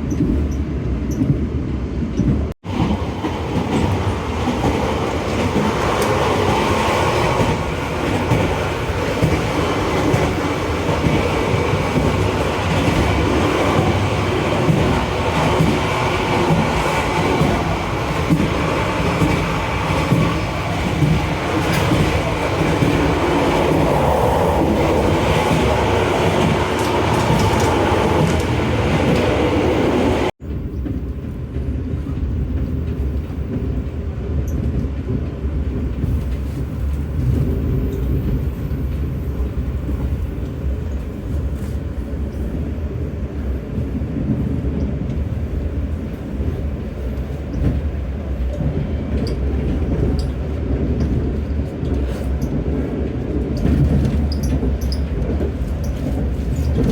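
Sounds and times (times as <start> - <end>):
train rushing rumble: 0.0 - 56.9.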